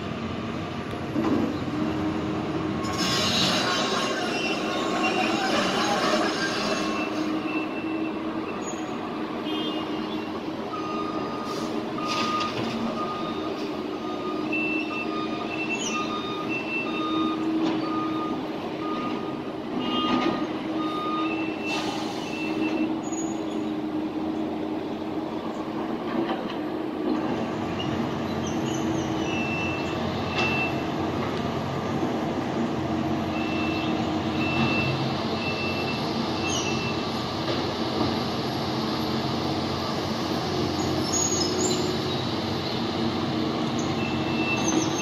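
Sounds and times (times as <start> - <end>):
heavy construction machinery running: 0.0 - 45.0.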